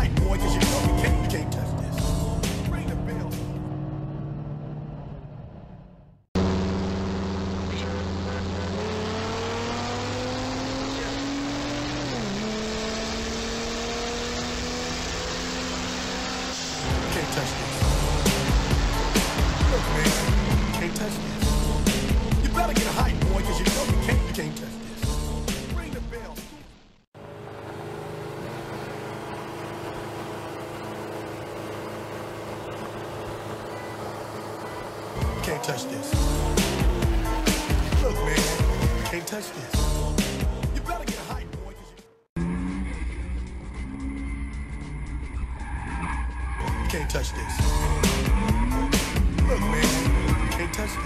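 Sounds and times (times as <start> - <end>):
car engine accelerating: 0.0 - 51.0
road noise: 0.0 - 51.0.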